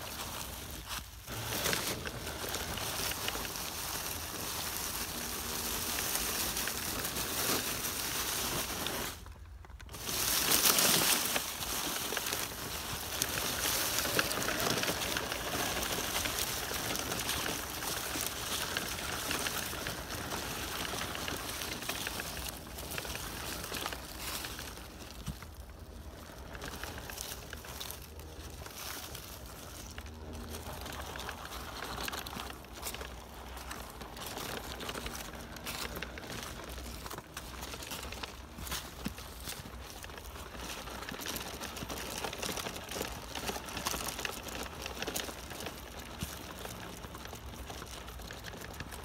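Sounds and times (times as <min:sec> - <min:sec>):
footsteps on dry leaves: 0:00.0 - 0:49.0
leaves crunching under tyres: 0:00.0 - 0:49.0.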